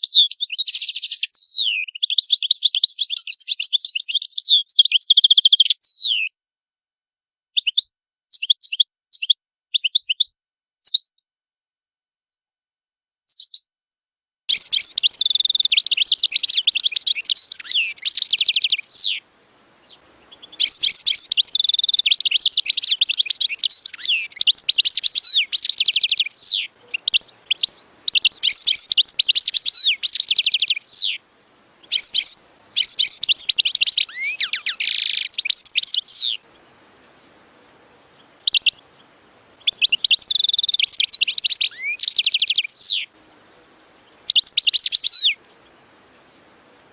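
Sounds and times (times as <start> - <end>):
goldfinch twittering song: 0.0 - 6.3, 13.3 - 13.6, 14.5 - 46.9.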